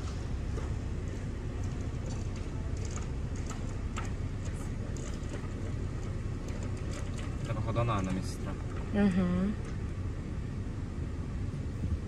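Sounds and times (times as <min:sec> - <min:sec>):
low mechanical rumble in car: 0:00.0 - 0:12.0.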